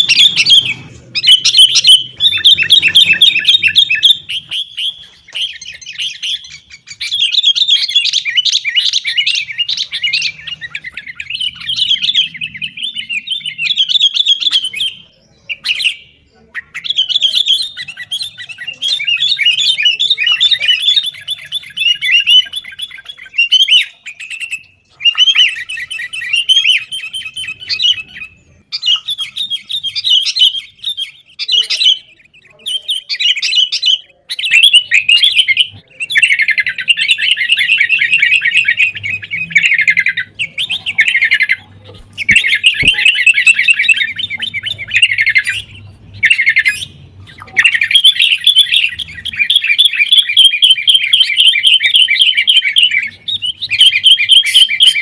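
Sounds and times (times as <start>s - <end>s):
bulbuls chattering: 0.0s - 55.0s.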